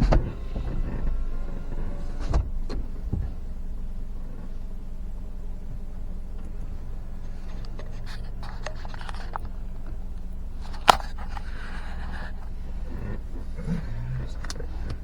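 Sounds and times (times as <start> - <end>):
vehicle hum: 0.0 - 15.0.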